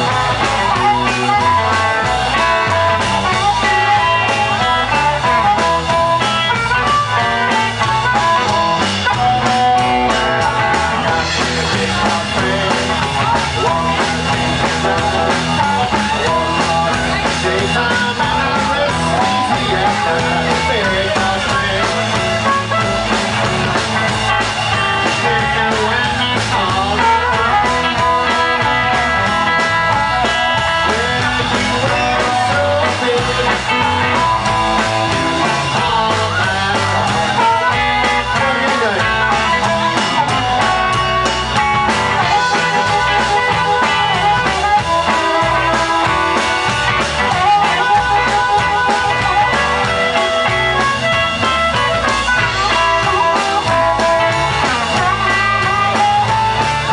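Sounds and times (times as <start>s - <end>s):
blues band playing: 0.0s - 56.9s
harmonica wailing: 0.0s - 56.9s.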